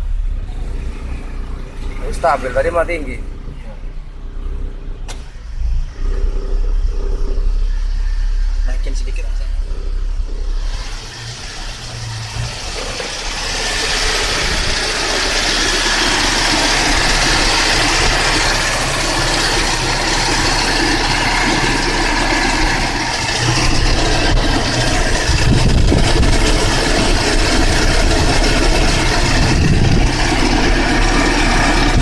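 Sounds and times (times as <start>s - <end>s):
air conditioning rushing: 0.0s - 32.0s
car engine idling: 0.0s - 32.0s.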